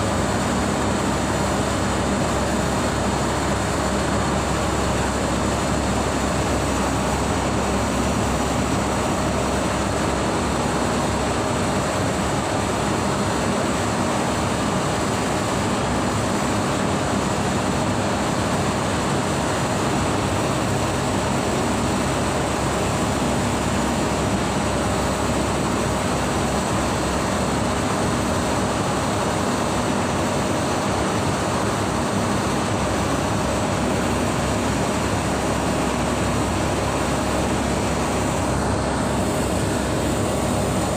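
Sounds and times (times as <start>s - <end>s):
air conditioning running: 0.0s - 40.9s.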